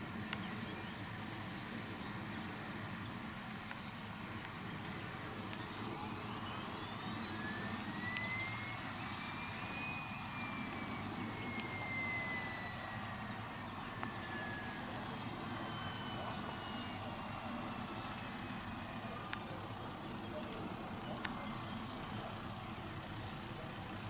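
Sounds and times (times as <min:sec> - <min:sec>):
model aircraft turbine whine: 0:00.0 - 0:24.0.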